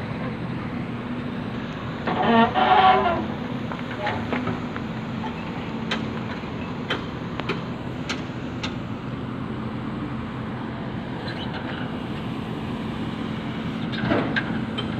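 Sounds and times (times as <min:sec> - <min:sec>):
diesel engine humming: 0:00.0 - 0:14.9.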